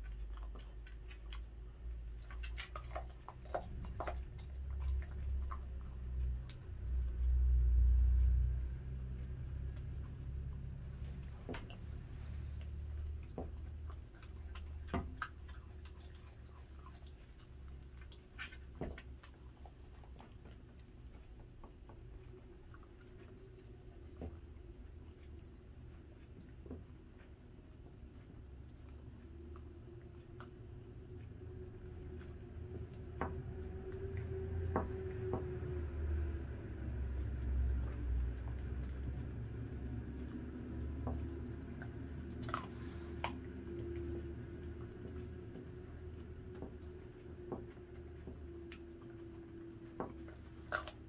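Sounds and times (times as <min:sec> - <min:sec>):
dog chewing raw meat: 0:00.0 - 0:51.0
steady low hum: 0:00.0 - 0:51.0.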